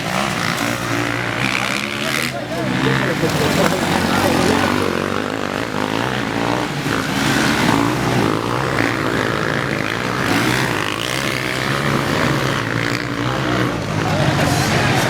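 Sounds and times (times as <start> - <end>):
dirt bikes racing: 0.0 - 15.0.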